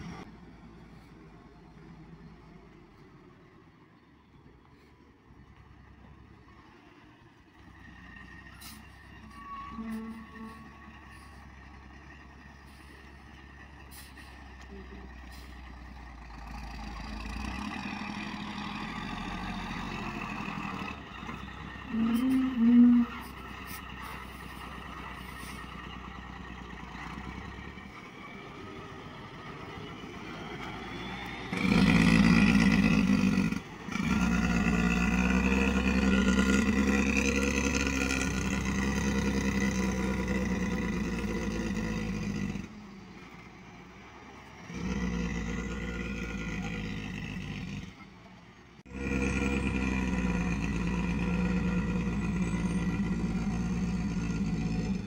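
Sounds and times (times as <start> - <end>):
truck engine running under load: 0.0 - 55.0.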